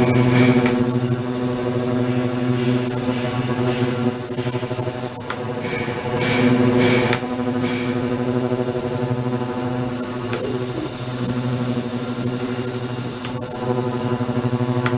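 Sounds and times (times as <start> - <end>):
thin high whine: 0.0 - 14.9
ultrasonic cleaner buzzing: 0.0 - 14.9.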